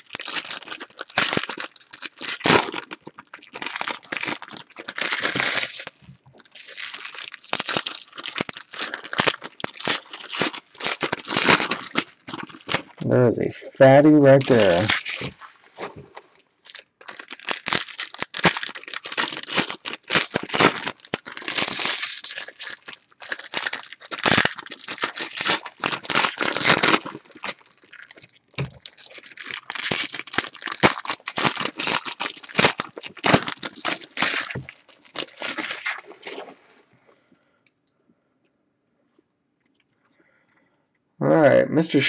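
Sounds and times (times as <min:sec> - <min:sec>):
foil wrappers crackling: 0:00.0 - 0:13.1, 0:14.2 - 0:15.6, 0:16.6 - 0:36.4.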